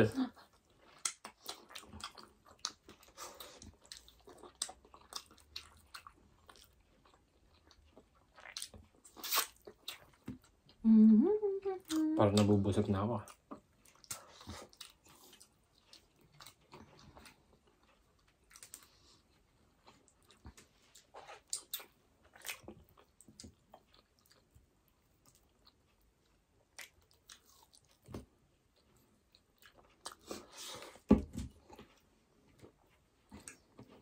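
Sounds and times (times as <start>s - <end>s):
chewing and mouth smacks: 0.4s - 10.8s, 13.2s - 34.0s.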